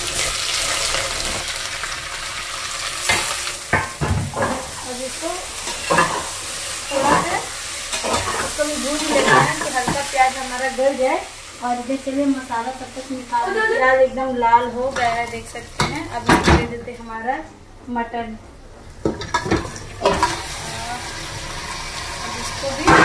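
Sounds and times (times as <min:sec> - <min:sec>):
onions sizzling in hot oil: 0:00.0 - 0:16.4, 0:19.0 - 0:23.0.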